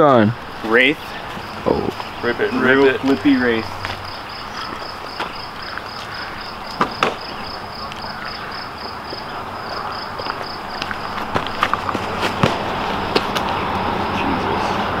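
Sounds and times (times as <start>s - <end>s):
outdoor background hiss: 0.0s - 15.0s
insect chirping: 0.1s - 14.4s.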